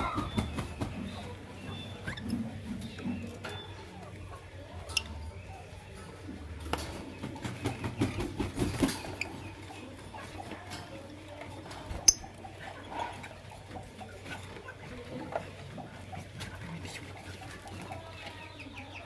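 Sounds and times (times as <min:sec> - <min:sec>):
lovebirds chirping: 0:00.0 - 0:11.0, 0:11.7 - 0:19.0.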